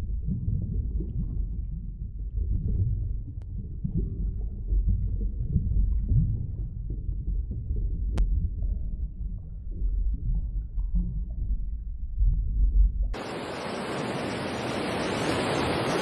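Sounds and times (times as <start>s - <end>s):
low underwater rumble: 0.0s - 13.3s.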